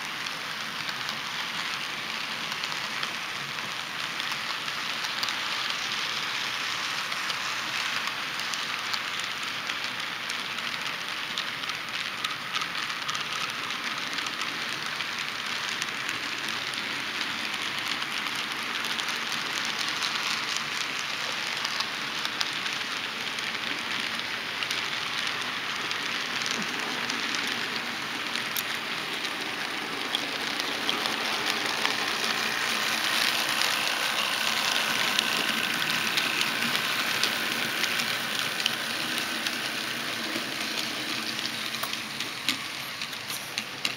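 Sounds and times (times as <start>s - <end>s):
model steam locomotive: 0.0s - 43.9s
model train wheels rattling on rail: 0.0s - 43.9s.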